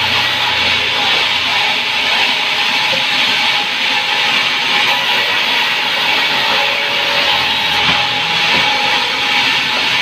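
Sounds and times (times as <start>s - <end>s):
power saw cutting wood: 0.0s - 10.0s.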